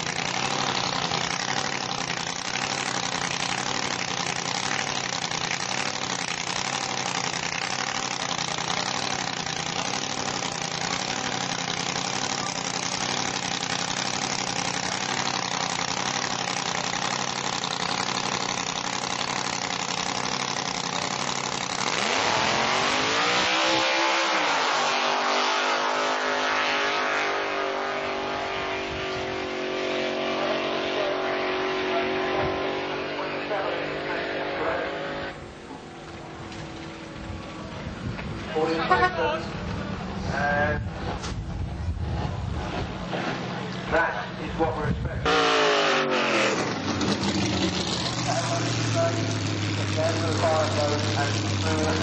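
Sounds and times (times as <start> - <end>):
drag racing car engine: 0.0 - 52.0.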